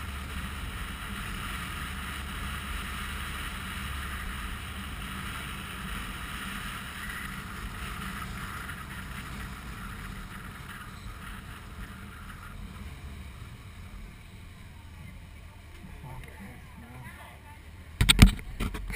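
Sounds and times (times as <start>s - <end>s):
motorcycle engine drone: 0.0s - 18.9s.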